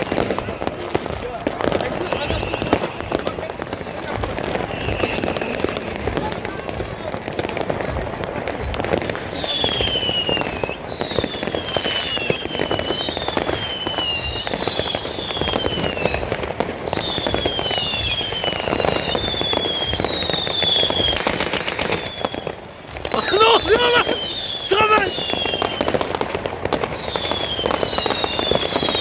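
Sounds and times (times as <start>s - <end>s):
descending firework whistles: 0.0s - 6.4s, 9.0s - 29.0s
fireworks crackling and banging: 0.0s - 29.0s.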